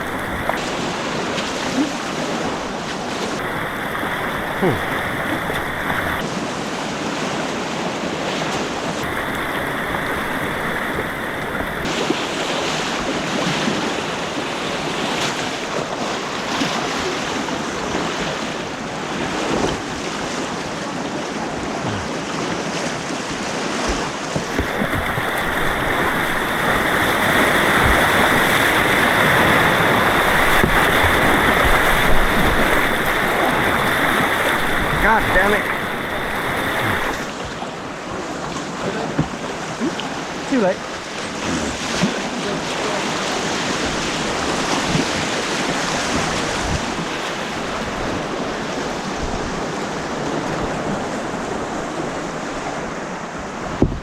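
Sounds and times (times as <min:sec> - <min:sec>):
rushing white water: 0:00.0 - 0:53.9.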